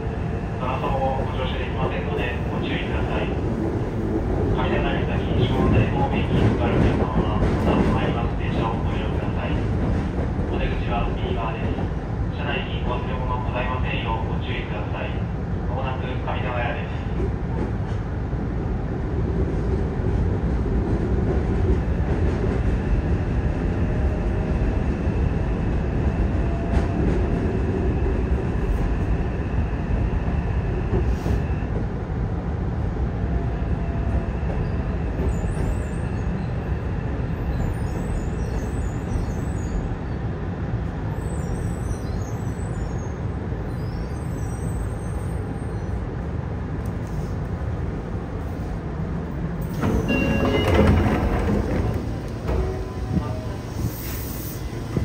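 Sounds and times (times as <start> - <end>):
train wheel and track rumble: 0.0 - 55.0.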